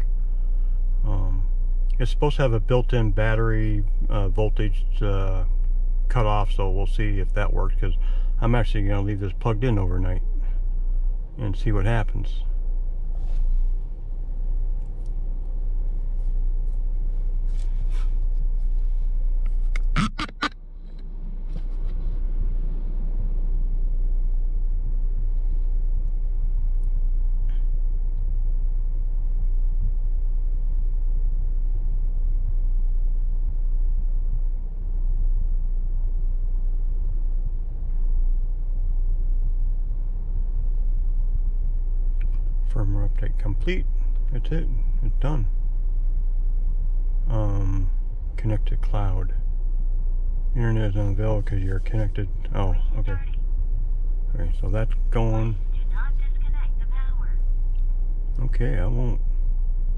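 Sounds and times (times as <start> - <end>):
low cabin rumble: 0.0 - 59.9.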